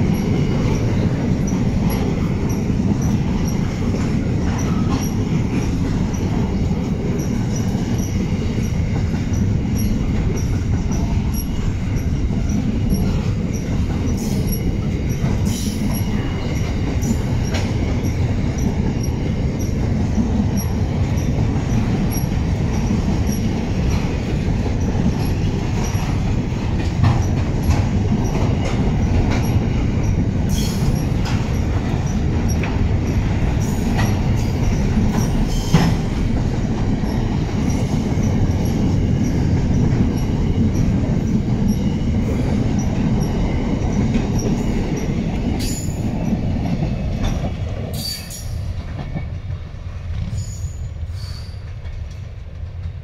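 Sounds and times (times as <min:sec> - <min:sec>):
freight train rolling past: 0:00.0 - 0:53.0
train wagons clanking: 0:00.0 - 0:53.0.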